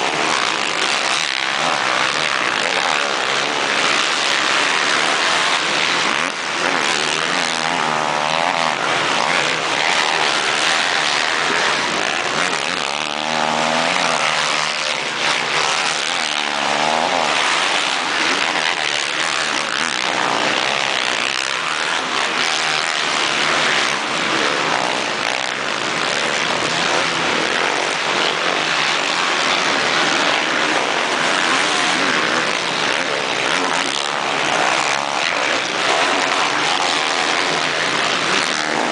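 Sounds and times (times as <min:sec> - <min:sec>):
motocross engines at high revs: 0:00.0 - 0:38.9.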